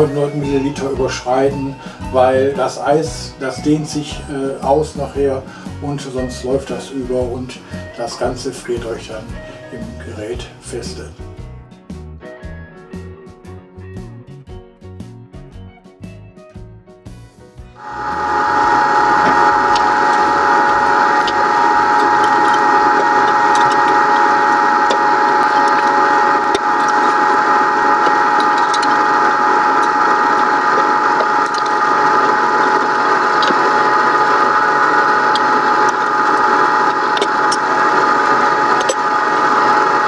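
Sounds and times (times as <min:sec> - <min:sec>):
ice cream maker whirring: 0:00.0 - 0:10.5, 0:17.8 - 0:40.0.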